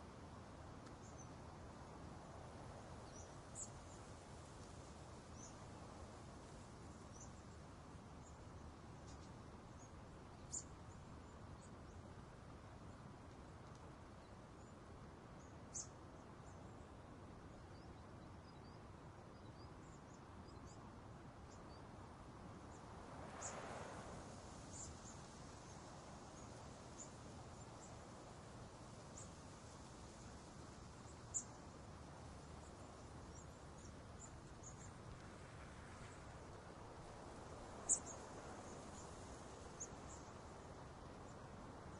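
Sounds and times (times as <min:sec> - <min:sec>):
steady low hiss: 0:00.0 - 0:41.9.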